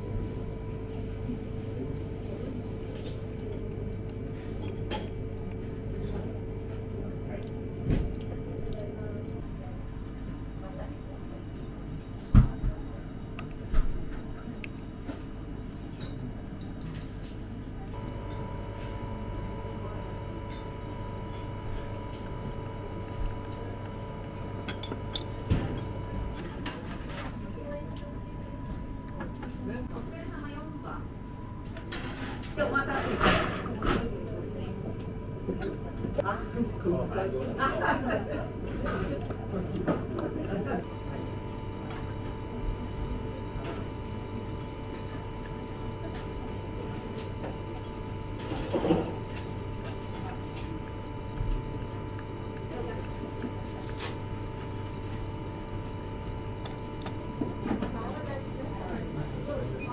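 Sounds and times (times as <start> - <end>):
room hum: 0.0 - 59.9.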